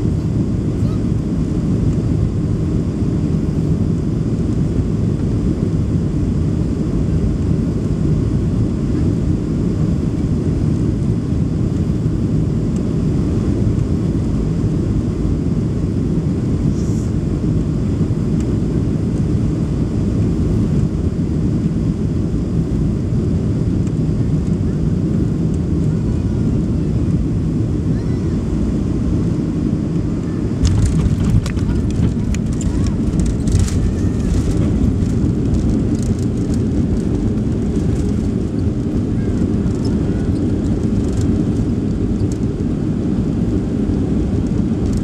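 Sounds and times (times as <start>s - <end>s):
airliner cabin engine rumble: 0.0s - 45.0s.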